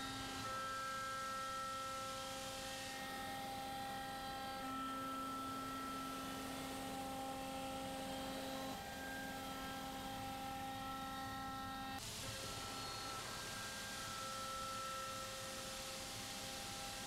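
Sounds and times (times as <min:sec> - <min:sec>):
milling machine whine: 0:00.0 - 0:17.0.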